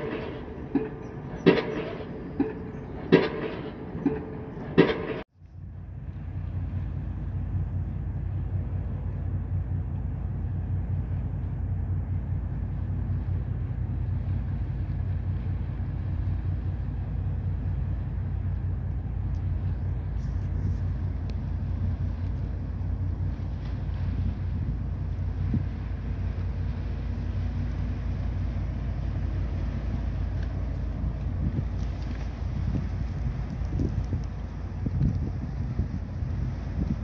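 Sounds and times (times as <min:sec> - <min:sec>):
ship engine drone: 0:00.0 - 0:37.0.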